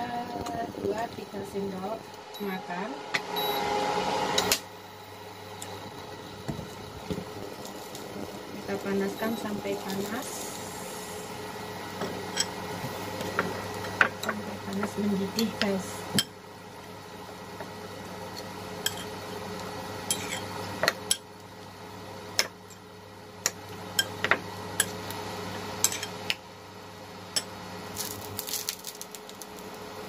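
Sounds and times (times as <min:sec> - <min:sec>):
induction hob humming: 0:00.0 - 0:30.0.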